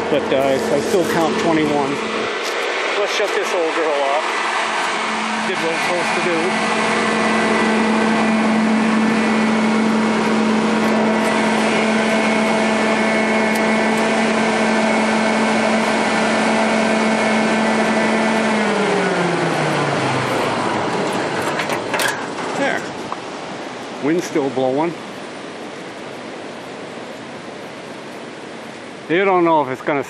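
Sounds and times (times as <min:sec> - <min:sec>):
generator engine humming: 0:00.0 - 0:30.0.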